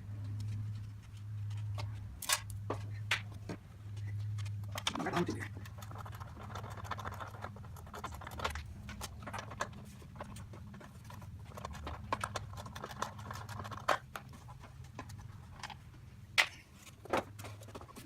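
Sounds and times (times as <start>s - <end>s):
steady low hum: 0.0s - 18.0s
hand tools and metal clicking: 0.1s - 15.8s.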